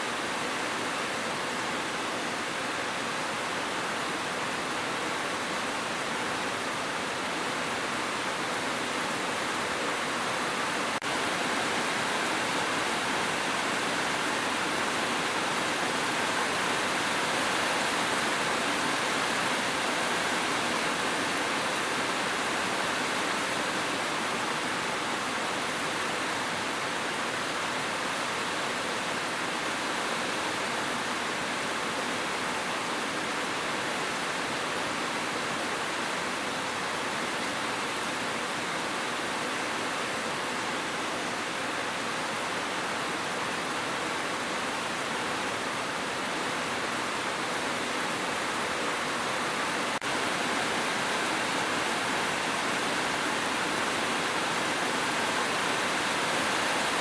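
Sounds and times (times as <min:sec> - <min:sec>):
heavy rain hiss: 0:00.0 - 0:57.0.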